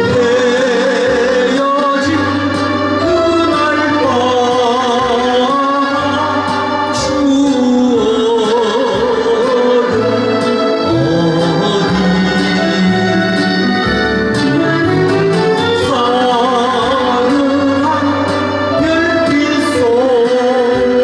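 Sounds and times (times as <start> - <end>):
karaoke backing track: 0.0 - 21.0
man singing into microphone: 0.0 - 21.0.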